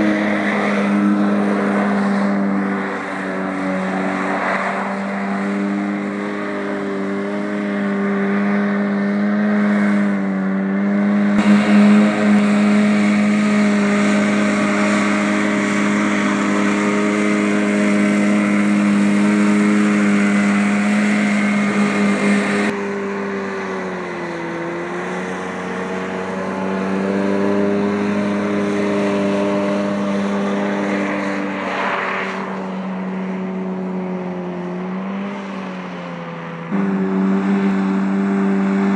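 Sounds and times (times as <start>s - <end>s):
hovercraft engine running: 0.0s - 38.9s.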